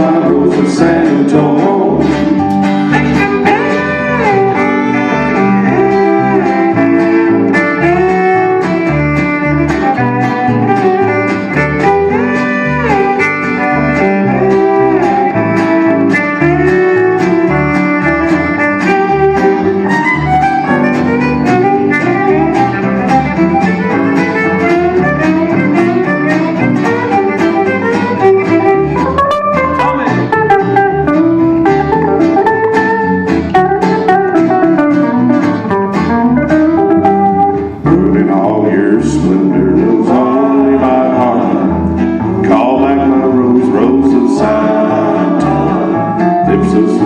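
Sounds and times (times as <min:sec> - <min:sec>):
bass: 0:00.0 - 0:47.0
lead guitar: 0:00.0 - 0:47.0
string band playing: 0:00.0 - 0:47.0.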